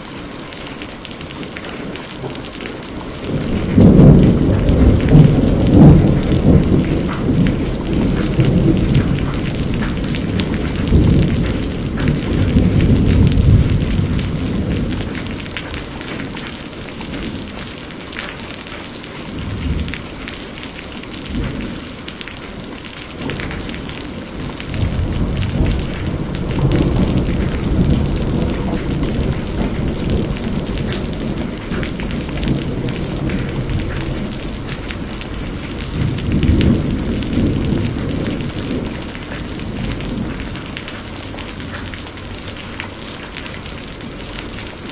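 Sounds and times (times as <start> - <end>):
steady rain: 0.0 - 44.9
rolling thunder: 1.5 - 18.2, 19.3 - 22.3, 23.1 - 44.9.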